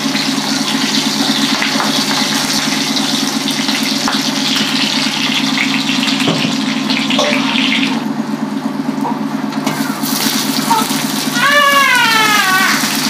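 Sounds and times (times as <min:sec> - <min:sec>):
oil sizzling in a pan: 0:00.0 - 0:08.0, 0:09.7 - 0:13.0
steady low hum: 0:00.0 - 0:13.0.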